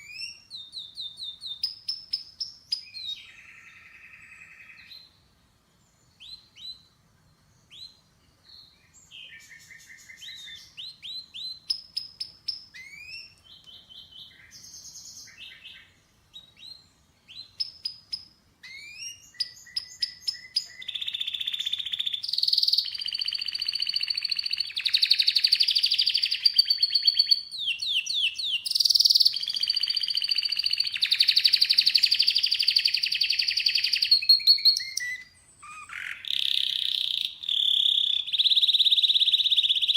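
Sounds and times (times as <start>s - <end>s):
canary singing trills: 0.0s - 5.1s, 7.6s - 39.9s.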